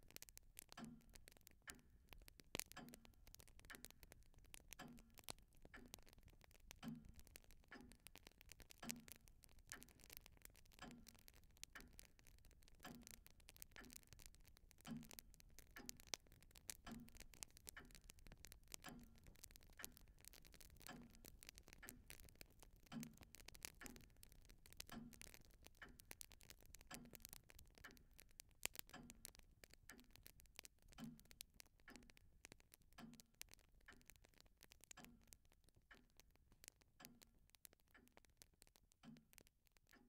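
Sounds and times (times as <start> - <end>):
clock ticking: 0.0 - 40.0
light irregular clicks: 0.0 - 40.0.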